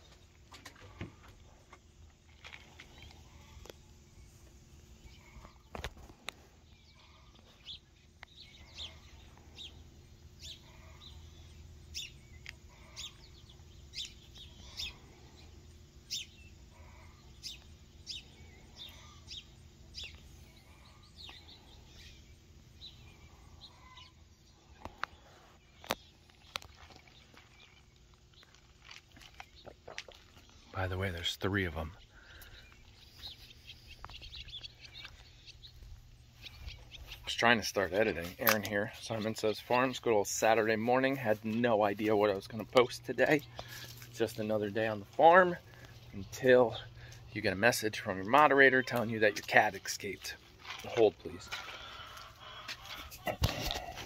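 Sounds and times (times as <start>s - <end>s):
low outdoor rumble: 0.0s - 54.0s
bird chirping: 2.8s - 54.0s.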